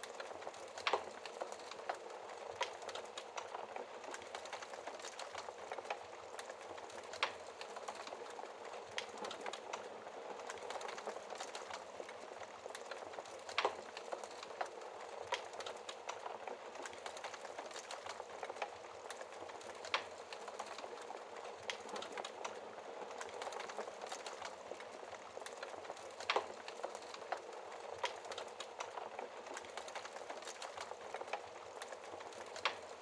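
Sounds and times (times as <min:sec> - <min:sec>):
fire crackles and pops: 0:00.0 - 0:33.0
wood fire hissing: 0:00.0 - 0:33.0.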